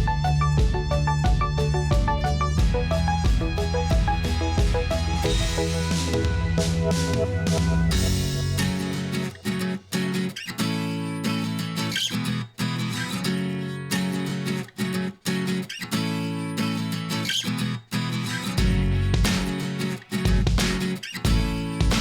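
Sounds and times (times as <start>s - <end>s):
guitar-led instrumental music: 0.0s - 22.0s.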